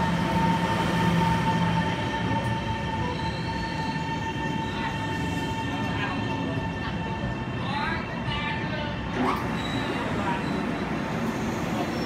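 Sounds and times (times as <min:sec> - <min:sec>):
electric train high whine: 0:00.0 - 0:12.0.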